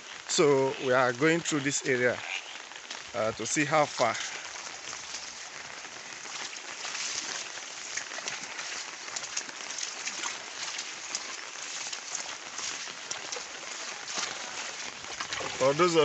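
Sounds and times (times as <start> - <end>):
wading through shallow water: 0.0 - 16.0.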